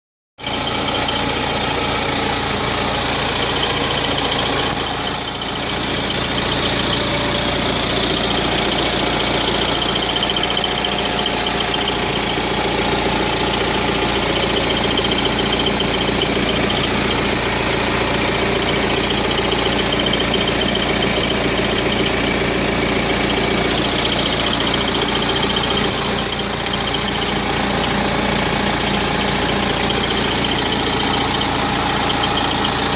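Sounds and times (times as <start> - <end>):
diesel engine idling: 0.4 - 32.9
extra engine noise: 0.4 - 32.9.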